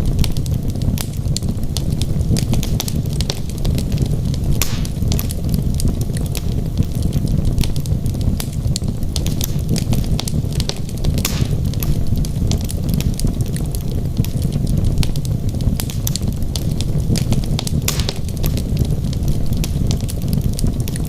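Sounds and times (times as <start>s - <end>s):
loud fire snaps: 0.0s - 21.0s
low rumble of burning logs: 0.0s - 21.0s
wood fire crackling and popping: 0.0s - 21.0s.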